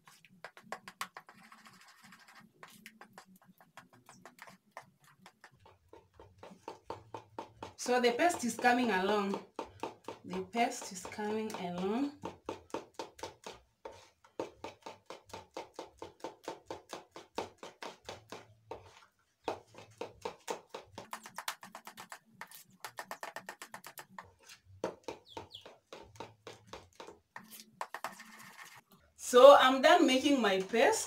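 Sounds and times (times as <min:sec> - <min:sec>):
wet slapping of batter mixing: 0:00.0 - 0:28.9.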